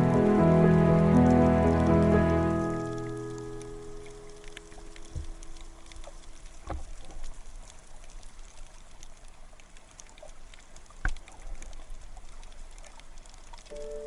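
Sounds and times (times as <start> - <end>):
faint underwater crackles: 0.0 - 14.0.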